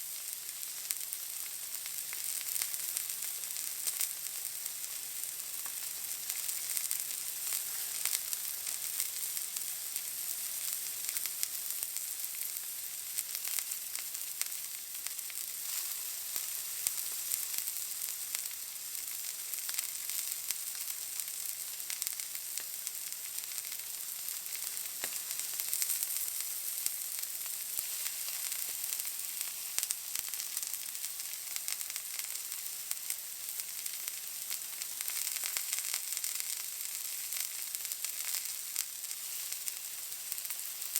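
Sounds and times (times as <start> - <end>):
steak sizzling in a pan: 0.0 - 40.9.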